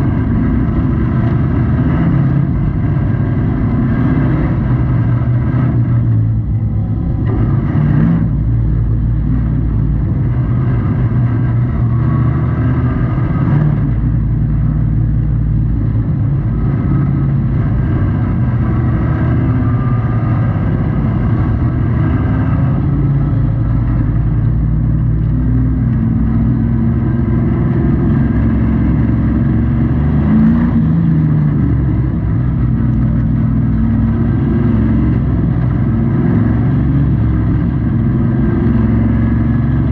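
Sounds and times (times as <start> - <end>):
truck engine racing: 0.0 - 39.9.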